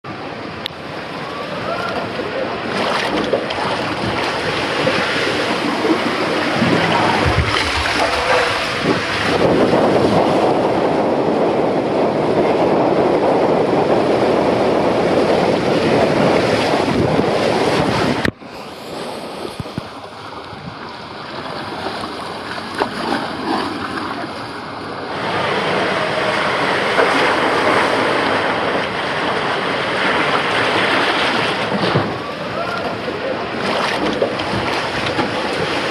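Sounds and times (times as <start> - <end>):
water rushing through slide: 0.1 - 35.9.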